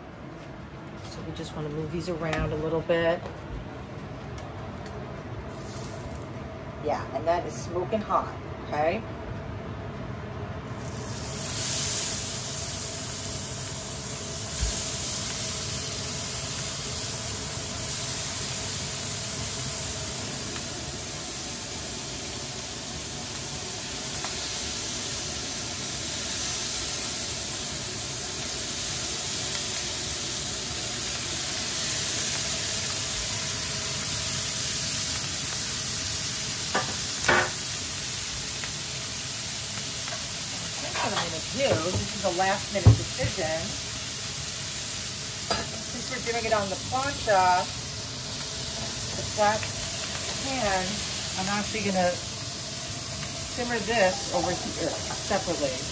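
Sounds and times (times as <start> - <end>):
shrimp sizzling on griddle: 5.5 - 6.3, 10.7 - 55.9.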